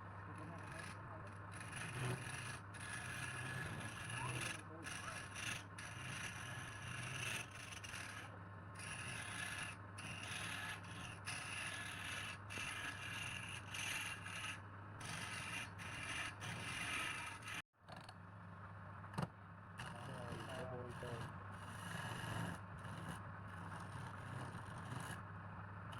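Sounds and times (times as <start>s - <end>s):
tool scraping spinning wood: 0.3s - 17.6s, 19.2s - 25.9s
wood lathe motor hum: 0.3s - 17.6s, 19.8s - 25.2s.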